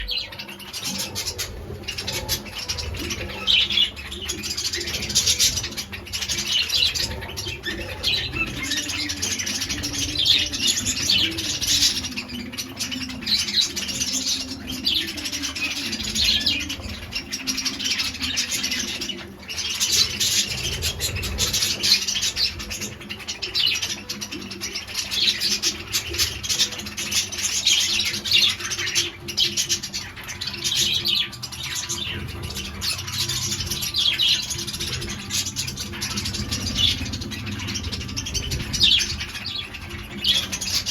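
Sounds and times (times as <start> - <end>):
flock of birds chirping: 0.0 - 40.9.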